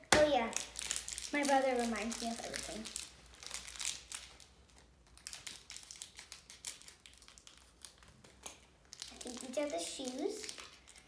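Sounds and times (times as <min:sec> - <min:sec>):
plastic wrapping crinkling: 0:00.2 - 0:11.0.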